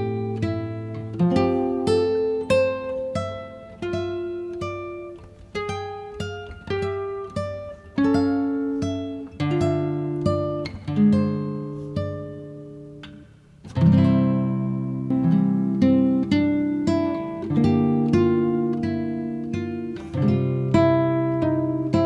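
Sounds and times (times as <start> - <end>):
plucked acoustic guitar: 0.0 - 22.0.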